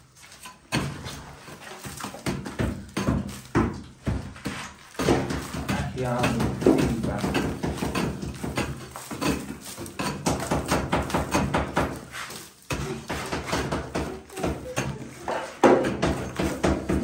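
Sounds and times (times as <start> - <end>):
hand tool chopping plaster wall: 0.4 - 17.0.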